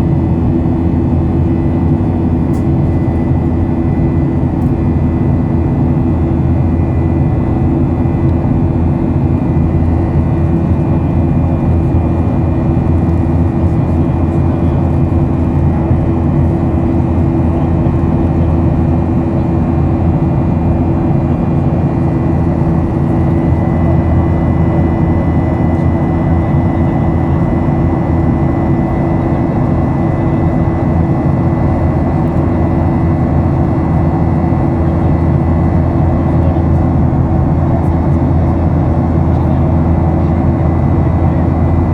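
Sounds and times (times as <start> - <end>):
jet engines droning: 0.0 - 41.9.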